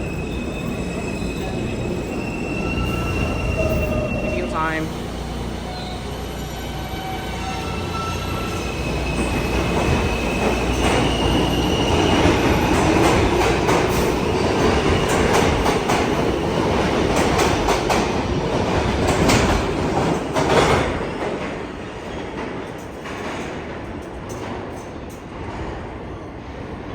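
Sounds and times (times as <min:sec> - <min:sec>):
subway train rumbling: 0:00.0 - 0:26.9.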